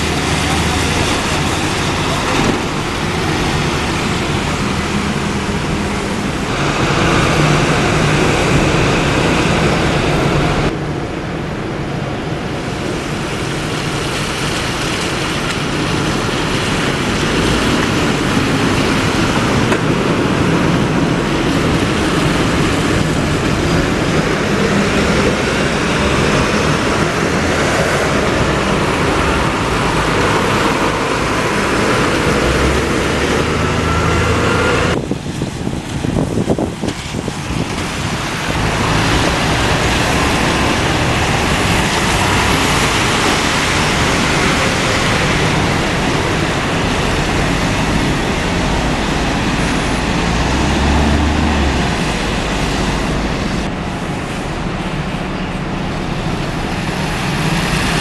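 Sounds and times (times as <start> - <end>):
diesel buses pulling away: 0.0 - 58.0
road traffic: 0.0 - 58.0.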